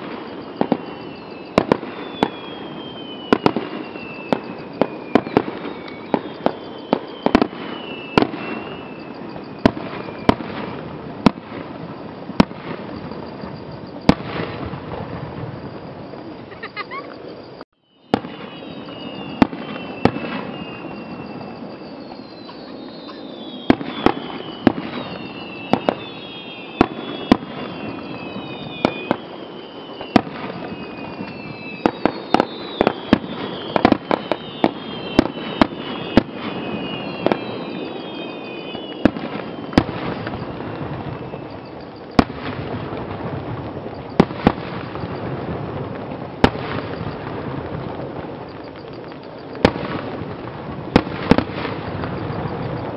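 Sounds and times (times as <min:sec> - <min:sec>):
high falling whistles: 0:00.0 - 0:45.5, 0:46.4 - 0:52.9
firework shells bursting: 0:00.0 - 0:52.9
steady background hiss: 0:00.0 - 0:52.9.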